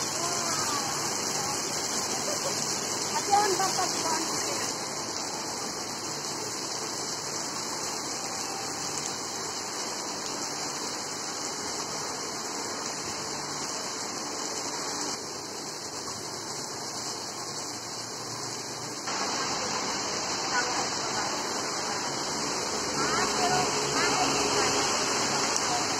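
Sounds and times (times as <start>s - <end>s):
heavy rain on paving: 0.0s - 25.9s.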